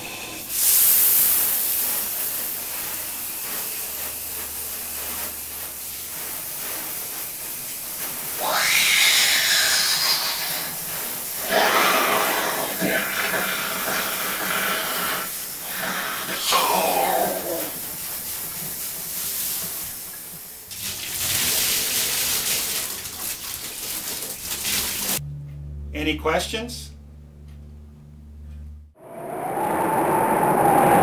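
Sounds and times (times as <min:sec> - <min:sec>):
hose water spraying: 0:00.0 - 0:25.2.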